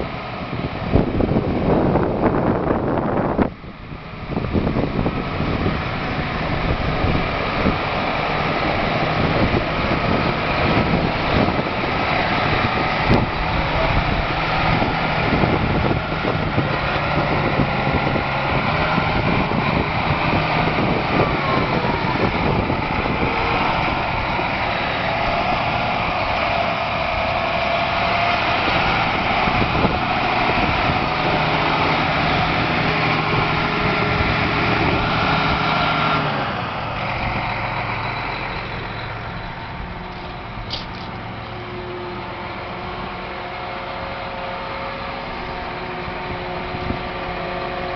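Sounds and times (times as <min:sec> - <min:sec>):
tractor diesel engine running: 0:00.0 - 0:47.9
tractor moving on gravel: 0:00.0 - 0:47.9.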